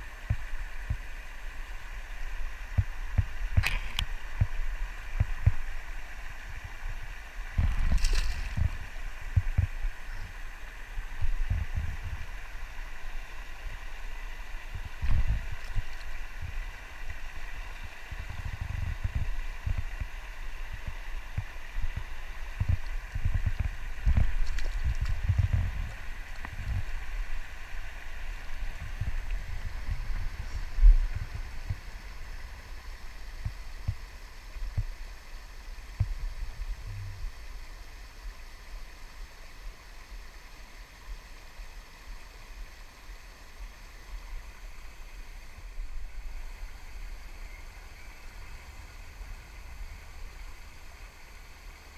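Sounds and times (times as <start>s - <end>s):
river water rushing over weir: 0.0s - 51.9s.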